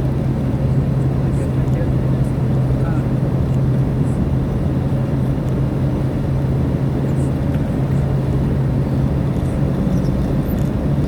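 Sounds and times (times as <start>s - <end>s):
car engine running: 0.0s - 11.0s
tyre and road noise: 0.0s - 11.0s.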